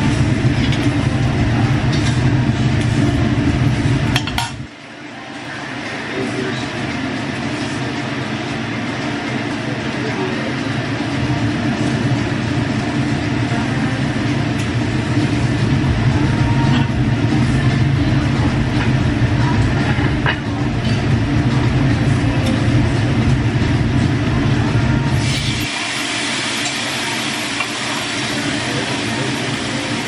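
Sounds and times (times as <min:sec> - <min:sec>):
restaurant background rumble: 0:00.0 - 0:30.0.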